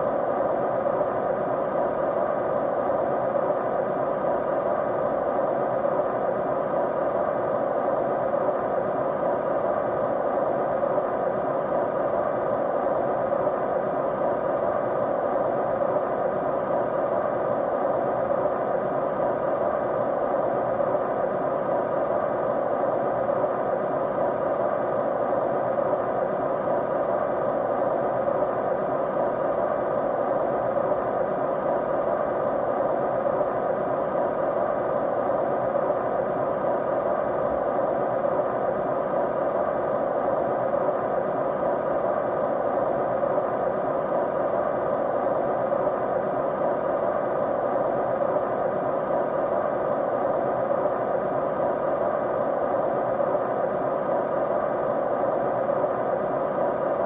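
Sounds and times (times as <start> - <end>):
faint hum tones: 0.0 - 57.0
steady white noise: 0.0 - 57.0.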